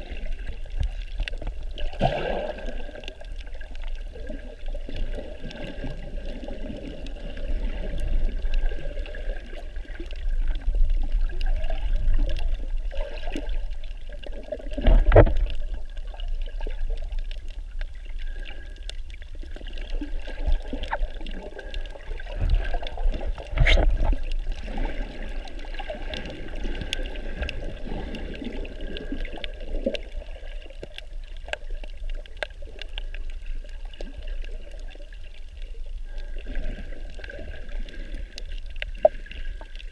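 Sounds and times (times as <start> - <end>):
muffled water sloshing: 0.0 - 39.9.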